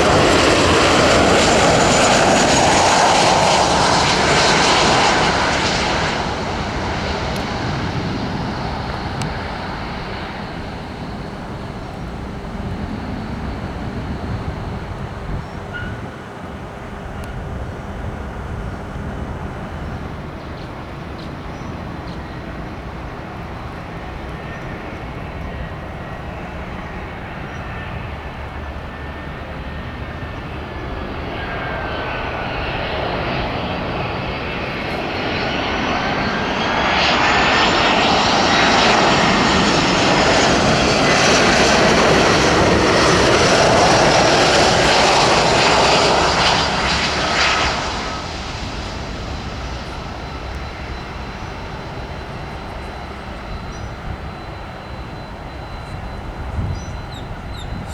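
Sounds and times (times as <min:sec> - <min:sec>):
jet airliner passing: 0:00.0 - 0:57.9.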